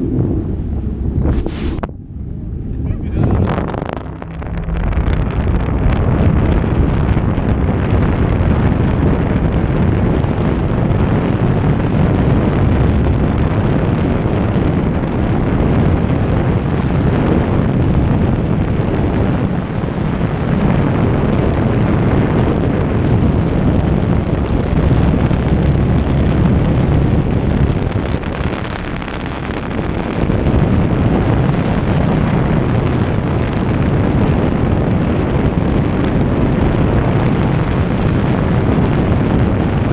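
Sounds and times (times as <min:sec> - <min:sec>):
jet boat engine: 0:00.0 - 0:39.9
water noise: 0:00.0 - 0:39.9
wind buffeting microphone: 0:00.0 - 0:39.9.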